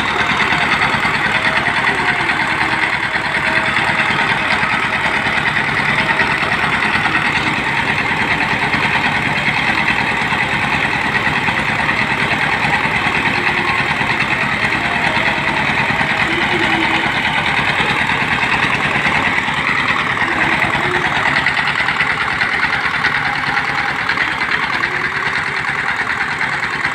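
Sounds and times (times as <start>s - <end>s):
drilling machine engine running: 0.0s - 26.9s.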